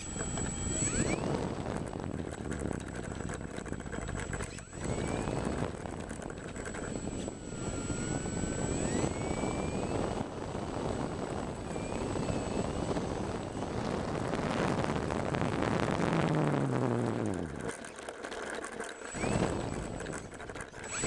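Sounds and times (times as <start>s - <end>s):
model airplane motor whine: 0.0s - 21.0s
steady rushing noise: 0.0s - 21.0s.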